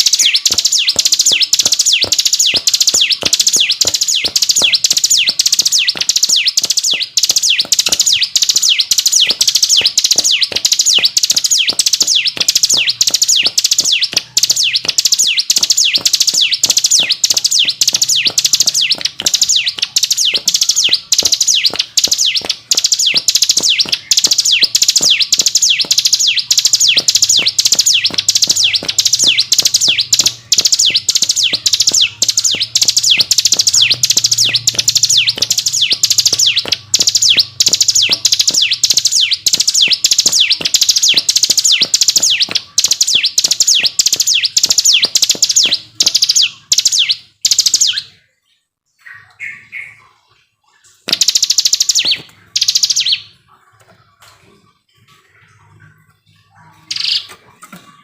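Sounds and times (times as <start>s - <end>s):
bird singing high notes: 0.0s - 54.2s.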